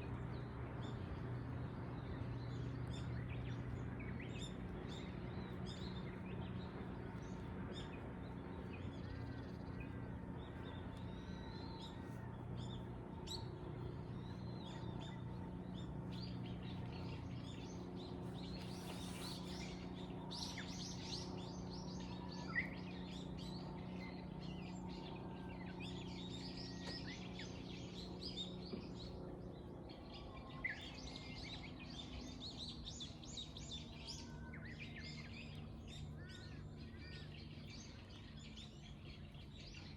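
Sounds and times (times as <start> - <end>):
low background hum: 0.0 - 39.9
small birds chirping: 0.0 - 39.9.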